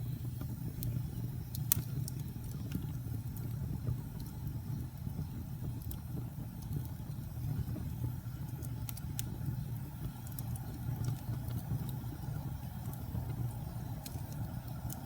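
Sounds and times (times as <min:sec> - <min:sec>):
wood fire burning and crackling: 0:00.0 - 0:15.0.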